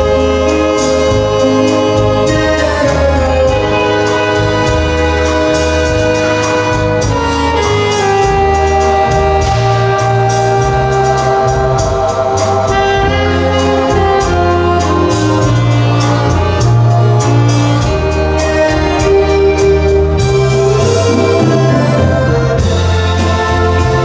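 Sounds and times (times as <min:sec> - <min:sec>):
brass band music: 0:00.0 - 0:24.0.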